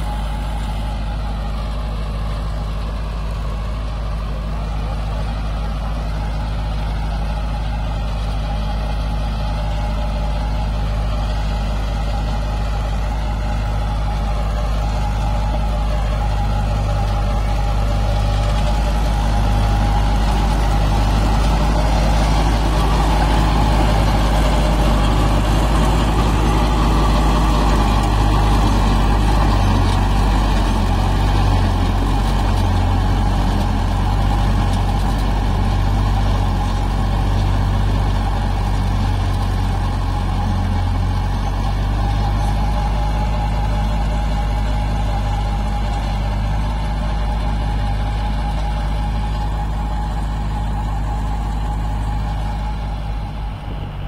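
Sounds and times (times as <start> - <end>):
seeder working soil: 0.0 - 54.0
tractor engine running under load: 0.0 - 54.0.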